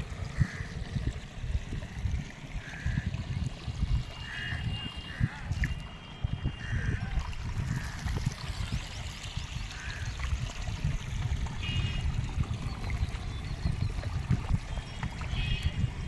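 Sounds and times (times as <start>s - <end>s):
water trickling: 0.0s - 16.0s
wind buffeting microphone: 0.0s - 16.0s.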